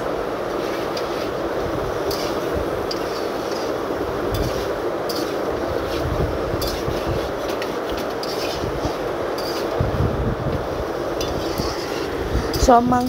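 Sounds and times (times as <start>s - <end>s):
steady rushing hiss: 0.0s - 13.0s
spatula scraping a pan: 0.6s - 1.4s, 2.0s - 9.9s, 10.6s - 13.0s.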